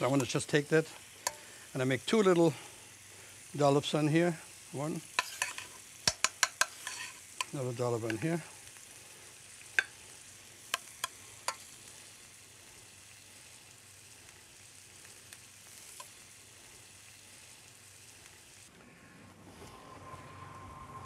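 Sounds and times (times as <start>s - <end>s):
meat sizzling on a grill: 0.0s - 18.7s.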